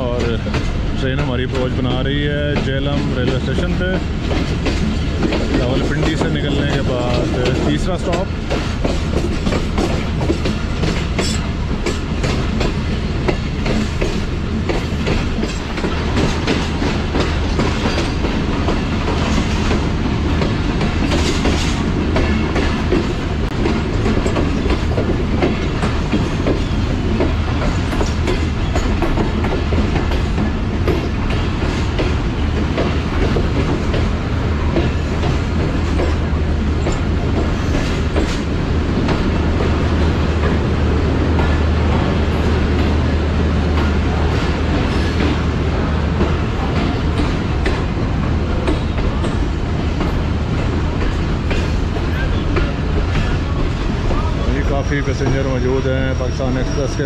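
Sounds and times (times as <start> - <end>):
train rumbling on rails: 0.0 - 57.0
wheels clattering over rail joints: 0.1 - 57.0.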